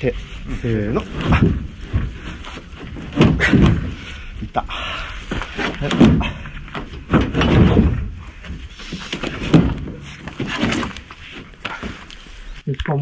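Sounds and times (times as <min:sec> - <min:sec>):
timber beams scraping and knocking: 0:00.0 - 0:12.6.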